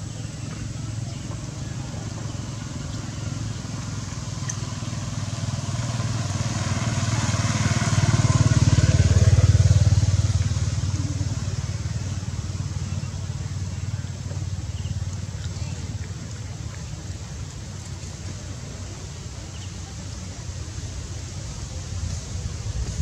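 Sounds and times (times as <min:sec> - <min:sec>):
vehicle engine passing by: 0:00.0 - 0:23.0.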